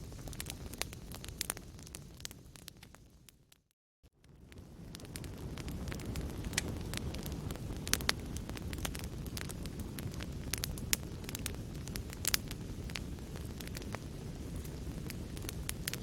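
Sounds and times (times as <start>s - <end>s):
fire crackling in a fireplace: 0.0s - 16.0s.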